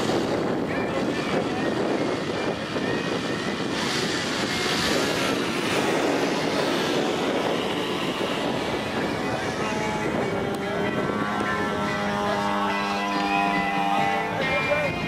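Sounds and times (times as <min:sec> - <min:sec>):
propeller plane flying overhead: 0:00.0 - 0:15.0.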